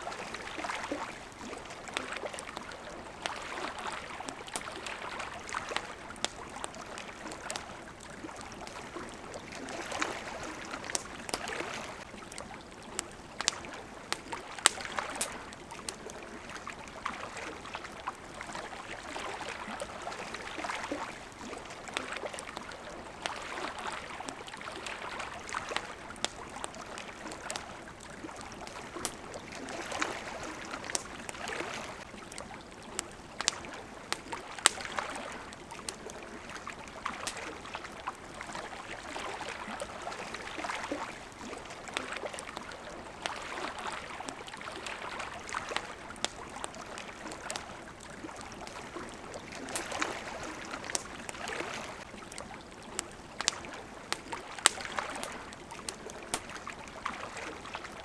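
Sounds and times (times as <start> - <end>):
campfire popping and crackling: 0.0 - 58.0
small waves lapping: 0.0 - 58.0.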